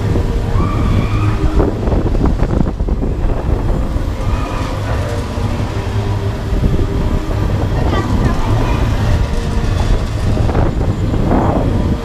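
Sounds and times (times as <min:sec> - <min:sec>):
amusement ride mechanical rumble: 0:00.0 - 0:12.0
knocks and rattles: 0:01.8 - 0:12.0.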